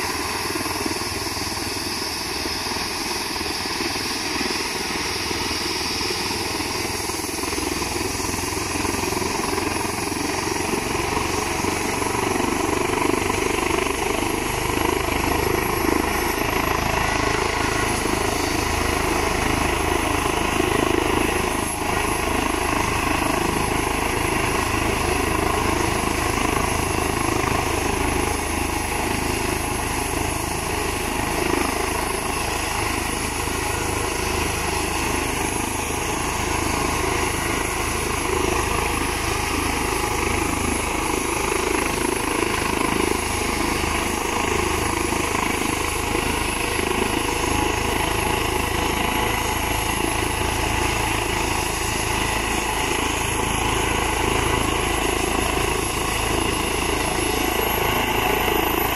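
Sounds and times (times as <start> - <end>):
helicopter rotor turning: 0.0 - 58.9
turbine whine: 0.0 - 58.9.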